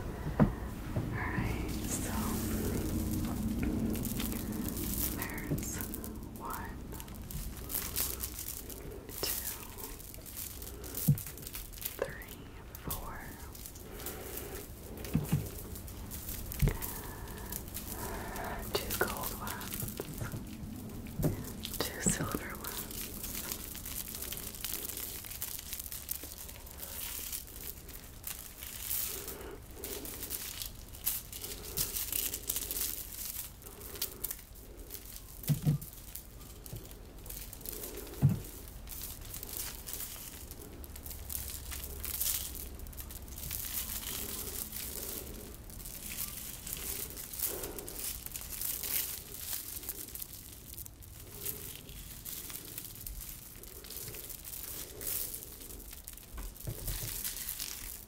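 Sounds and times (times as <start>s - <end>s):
beads and chains jingling: 1.2s - 58.0s.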